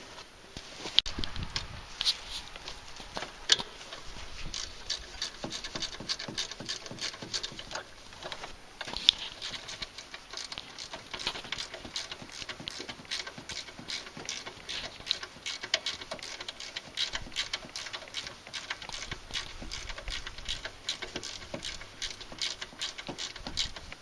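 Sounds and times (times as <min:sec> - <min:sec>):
hand tools clicking and tapping: 0:02.0 - 0:24.0.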